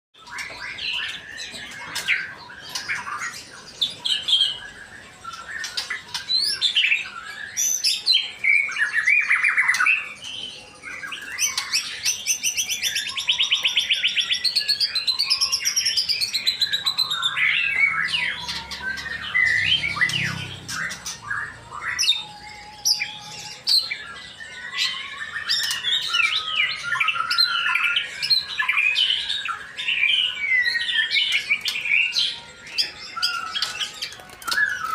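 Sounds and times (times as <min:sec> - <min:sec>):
songbird singing whistles and chirps: 0:00.2 - 0:34.9.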